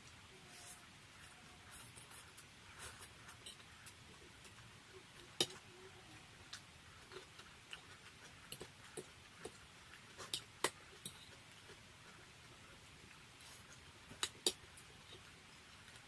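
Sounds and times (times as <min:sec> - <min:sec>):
chewing noodles mouth sounds: 0:01.8 - 0:16.0.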